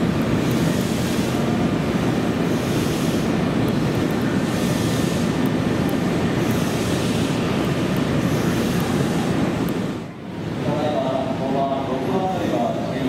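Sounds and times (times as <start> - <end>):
electric train humming and hissing: 0.0 - 13.0
station ambience: 0.0 - 13.0.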